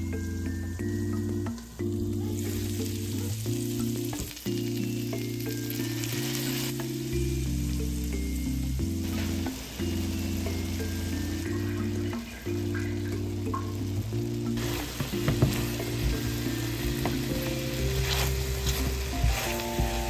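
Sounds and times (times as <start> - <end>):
meatballs sizzling in a frying pan: 0.0 - 20.0
soft background music: 0.0 - 20.0.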